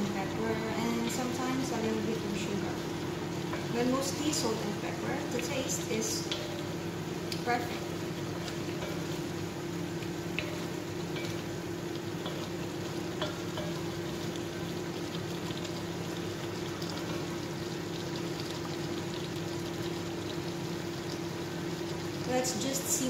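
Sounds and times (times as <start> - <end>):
food sizzling and bubbling in wok: 0.0 - 23.0
steady low hum: 0.0 - 23.0.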